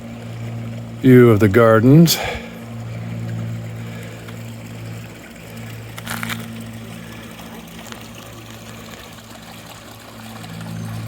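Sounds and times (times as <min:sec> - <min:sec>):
low motor hum: 0:00.0 - 0:11.0
water trickling: 0:00.0 - 0:11.0.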